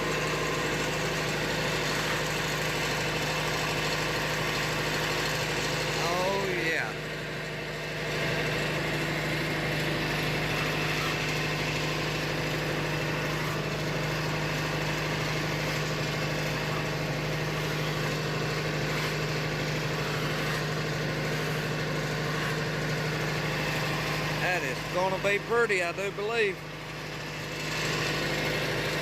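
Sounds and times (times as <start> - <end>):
sawmill engine idling: 0.0 - 29.0.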